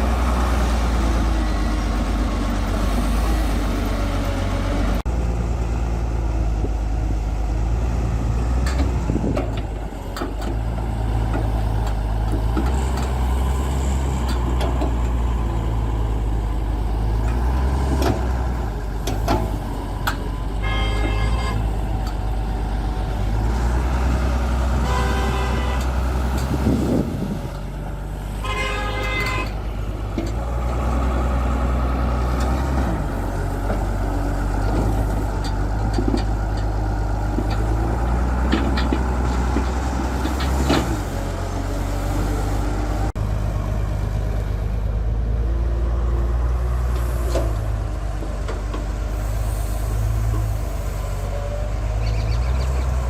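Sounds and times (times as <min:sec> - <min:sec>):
excavator diesel engine rumbling: 0:00.0 - 0:53.0.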